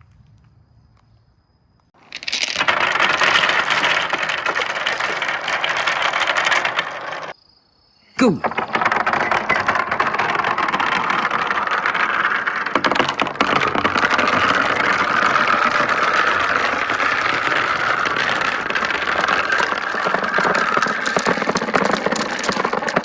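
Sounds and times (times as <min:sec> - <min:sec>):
marbles rolling on track: 0:02.0 - 0:07.4, 0:08.4 - 0:23.0.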